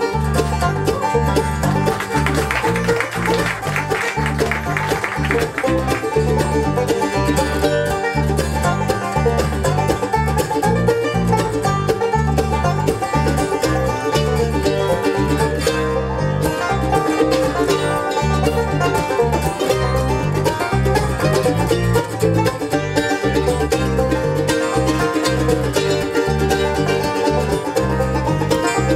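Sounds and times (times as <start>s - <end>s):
banjo picking rapid rolls: 0.0s - 28.9s
bluegrass band playing: 0.0s - 28.9s.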